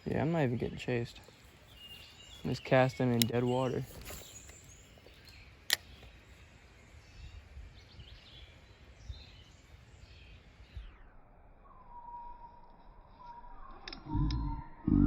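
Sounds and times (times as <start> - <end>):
faint bird chirps: 0.1 - 15.0.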